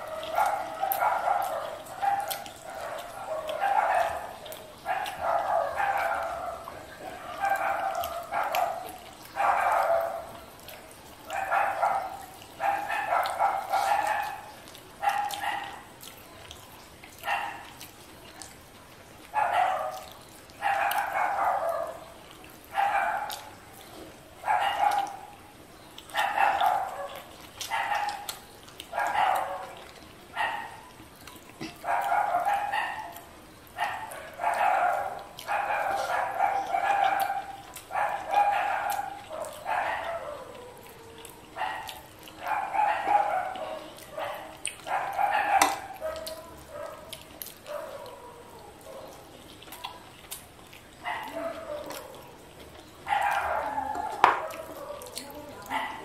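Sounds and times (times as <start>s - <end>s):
dog barking: 0.0s - 10.4s, 11.2s - 16.1s, 17.2s - 17.8s, 19.2s - 23.6s, 24.4s - 25.4s, 26.1s - 31.0s, 31.6s - 49.9s, 51.0s - 56.0s.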